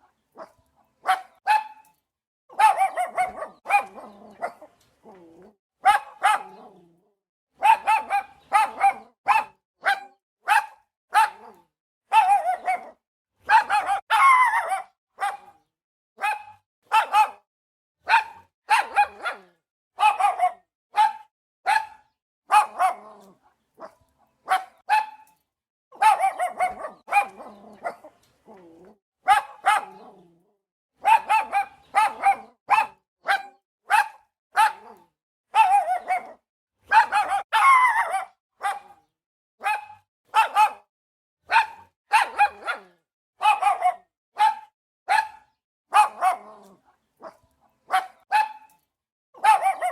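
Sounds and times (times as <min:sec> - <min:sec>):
dog barking: 0:00.3 - 0:05.2, 0:05.8 - 0:06.8, 0:07.6 - 0:25.3, 0:25.9 - 0:28.2, 0:29.2 - 0:30.3, 0:31.0 - 0:48.8, 0:49.4 - 0:49.9.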